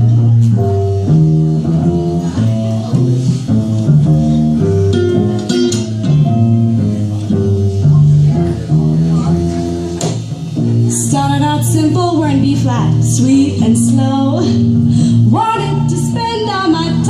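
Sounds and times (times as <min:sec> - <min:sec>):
acoustic guitar plucked notes: 0:00.0 - 0:17.0
double bass walking line: 0:00.0 - 0:17.0.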